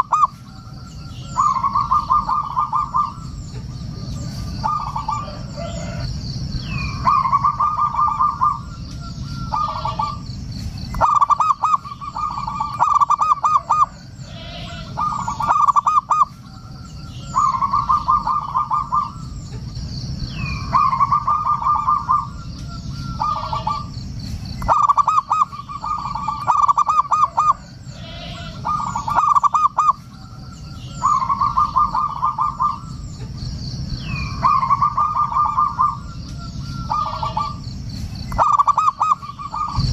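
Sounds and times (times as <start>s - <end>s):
doves cooing: 0.0s - 39.9s
low background rumble: 0.0s - 39.9s
small birds chirping: 0.0s - 39.9s.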